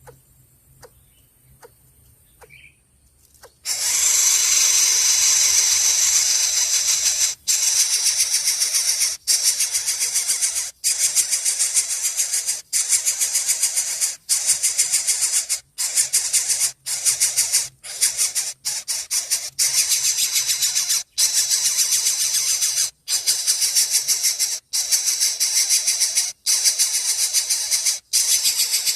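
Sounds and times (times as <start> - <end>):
baby birds raspy chirps: 3.4 - 28.9.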